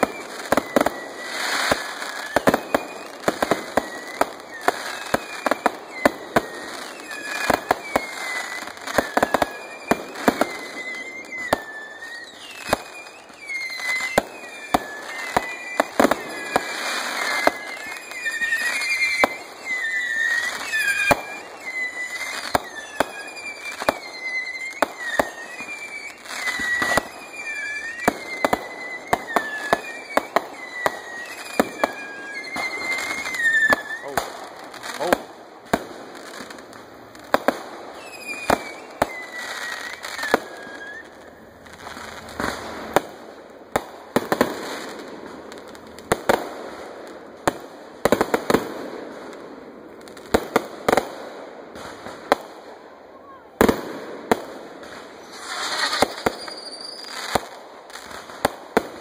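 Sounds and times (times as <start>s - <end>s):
firework whistling glides: 0.0s - 59.0s
fireworks bangs: 0.0s - 59.0s.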